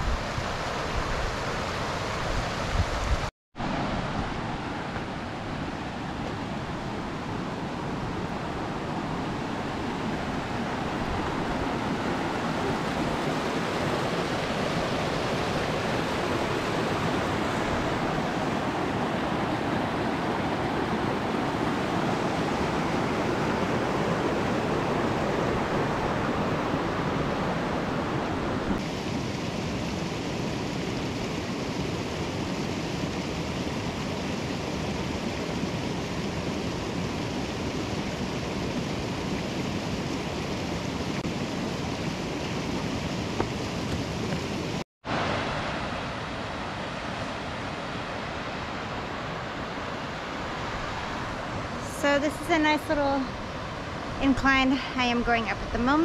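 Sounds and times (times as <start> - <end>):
rushing creek water: 0.0 - 56.0.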